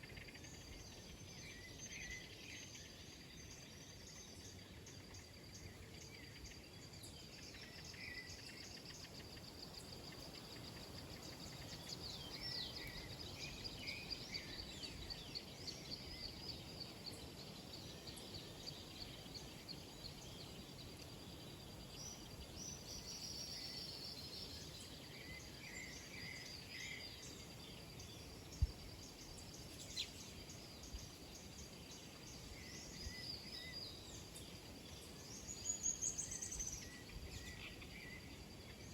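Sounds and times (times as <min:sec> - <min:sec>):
birds chirping and trilling: 0:00.1 - 0:38.9.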